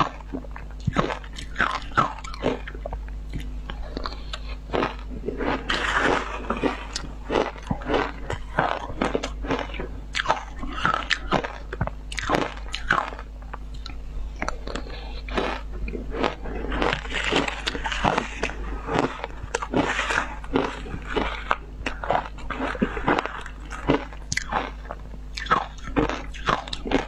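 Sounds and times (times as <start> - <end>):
ice being chewed: 0.0 - 27.0
low steady hum: 0.0 - 27.0.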